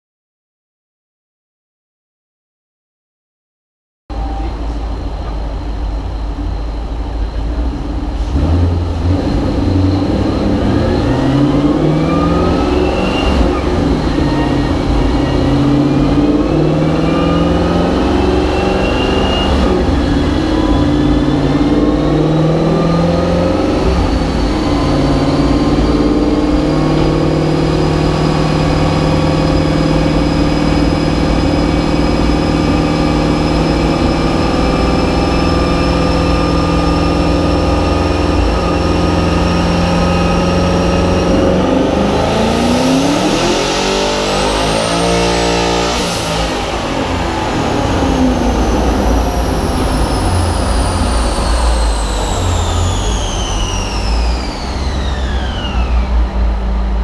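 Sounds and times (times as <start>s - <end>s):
high turbo whine: 4.1s - 57.0s
car engine revving on a dyno: 4.5s - 57.0s.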